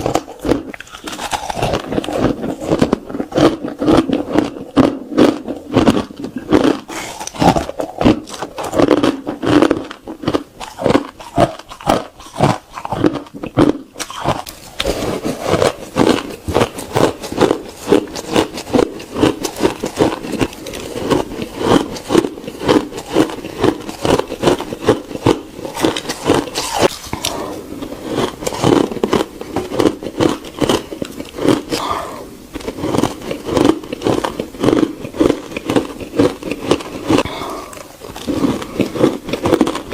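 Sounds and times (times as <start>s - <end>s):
ice crunched between teeth: 0.0s - 31.9s, 32.5s - 39.9s.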